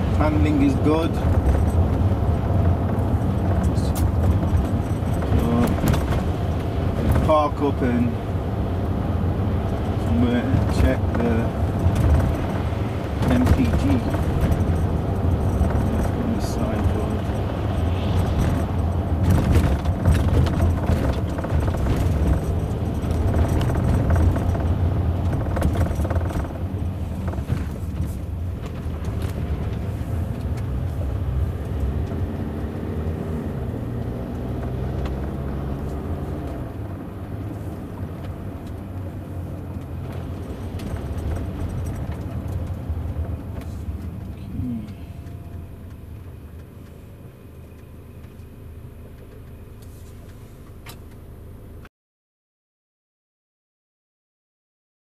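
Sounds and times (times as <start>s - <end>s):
car interior road noise: 0.0s - 51.9s.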